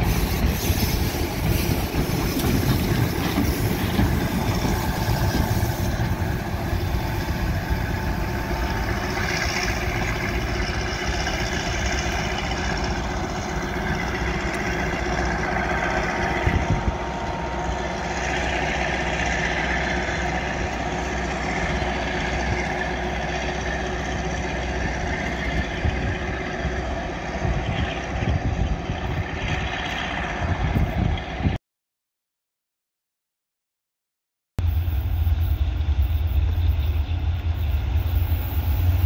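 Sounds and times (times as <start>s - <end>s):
train wheels rolling on rails: 0.0s - 31.5s, 34.7s - 39.0s
diesel locomotive working: 0.0s - 31.6s, 34.6s - 39.0s.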